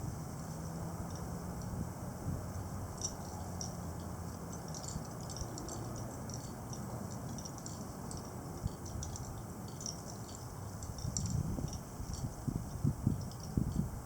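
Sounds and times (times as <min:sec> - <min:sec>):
gusty wind: 0:00.0 - 0:14.0
faint high ticks: 0:02.5 - 0:13.9.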